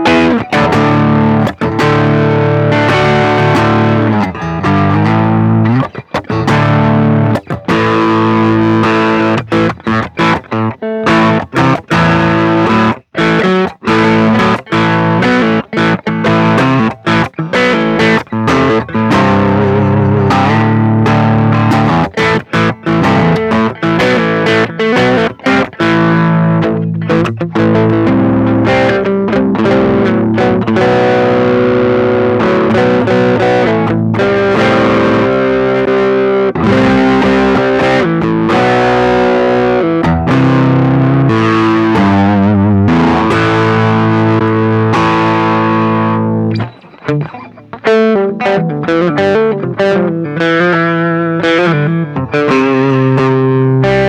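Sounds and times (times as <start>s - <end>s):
distorted electric guitar: 0.0s - 54.0s.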